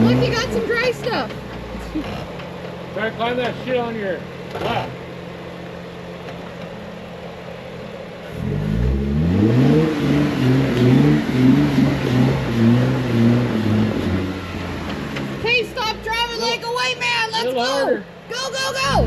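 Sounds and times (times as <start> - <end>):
truck engine revving: 0.0 - 5.4, 8.1 - 18.0, 18.6 - 19.0.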